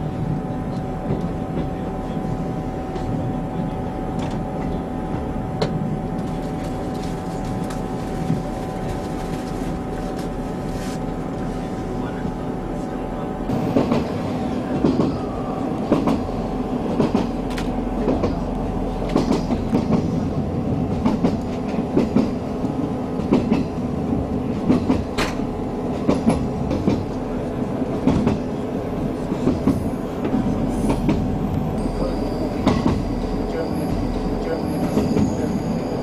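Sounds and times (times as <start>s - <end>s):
train running hum: 0.0s - 36.0s.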